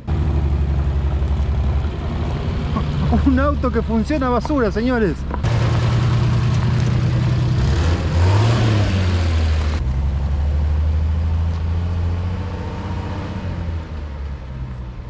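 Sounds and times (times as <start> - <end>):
vehicle engine running: 0.0 - 12.8
tyre noise on dirt road: 0.0 - 15.0.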